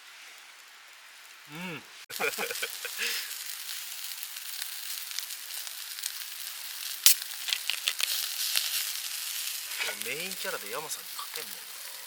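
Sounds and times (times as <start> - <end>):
food sizzling: 0.0 - 12.0
crackling pops: 2.1 - 12.0.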